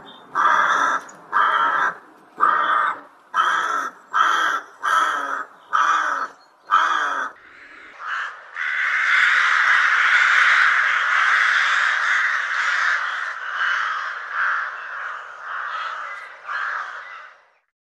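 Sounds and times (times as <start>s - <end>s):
rooks cawing: 0.3s - 17.6s.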